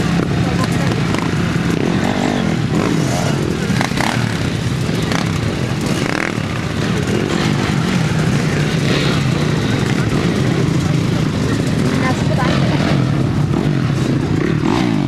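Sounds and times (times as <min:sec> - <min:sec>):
dirt bike engines at low revs: 0:00.0 - 0:15.0.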